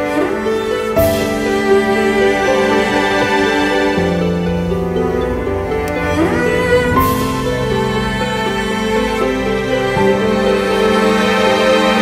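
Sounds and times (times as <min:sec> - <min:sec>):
bowed strings holding notes: 0:00.0 - 0:12.0.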